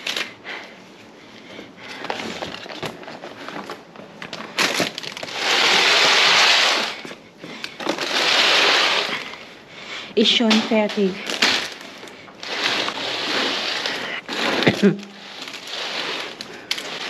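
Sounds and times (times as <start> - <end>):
plastic packaging crinkling: 1.9 - 9.5, 10.4 - 17.0.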